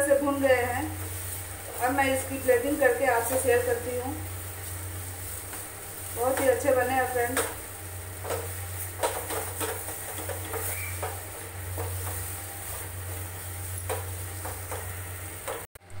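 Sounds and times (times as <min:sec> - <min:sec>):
wooden spatula scraping a pan: 0:00.6 - 0:15.7.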